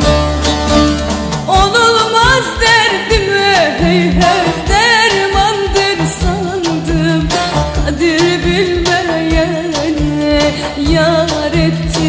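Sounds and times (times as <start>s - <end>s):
song with solo singing voice: 1.4s - 12.0s
steady beat: 1.6s - 12.0s.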